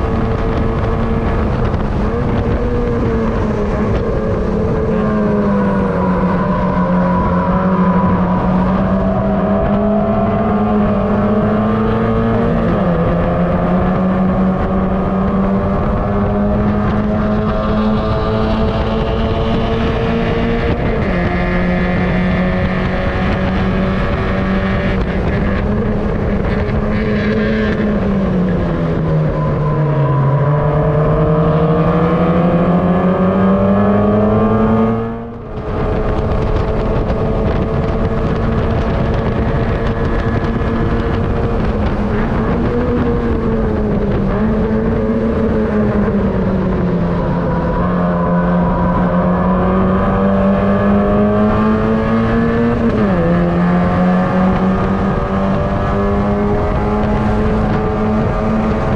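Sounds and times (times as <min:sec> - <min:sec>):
race car engine at speed: 0:00.0 - 0:58.9.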